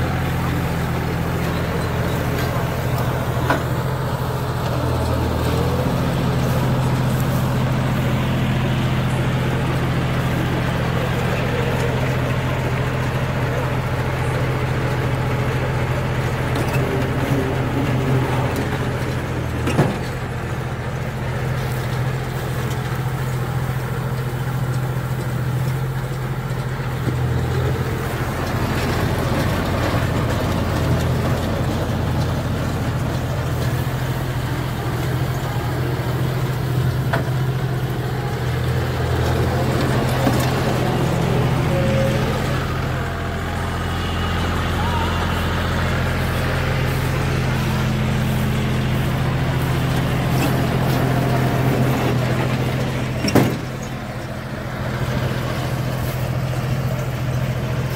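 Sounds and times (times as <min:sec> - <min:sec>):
round baler picking up straw: 0:00.0 - 0:57.9
tractor diesel engine under load: 0:00.0 - 0:57.9.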